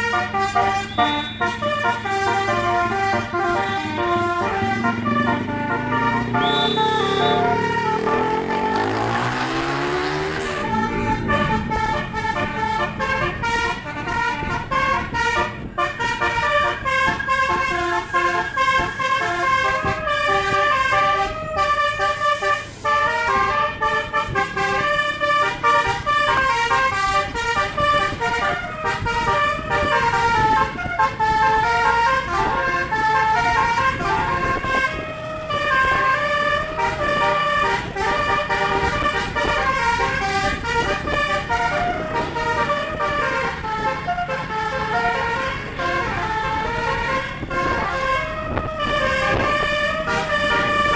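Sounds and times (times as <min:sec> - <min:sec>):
bus engine rumble: 0:00.0 - 0:50.9
musical air horn melody: 0:00.0 - 0:50.9.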